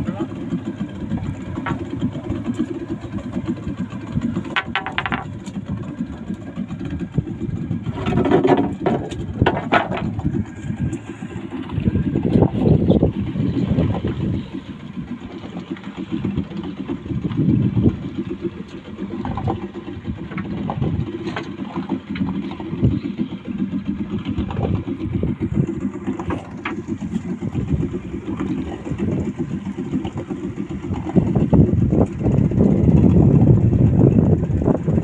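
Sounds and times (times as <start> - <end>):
boat engine idling: 0.0 - 35.0.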